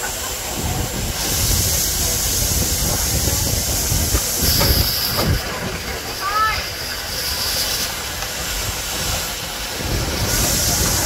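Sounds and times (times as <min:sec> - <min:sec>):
steam locomotive hissing: 0:00.0 - 0:11.0
train rumbling: 0:00.0 - 0:11.0.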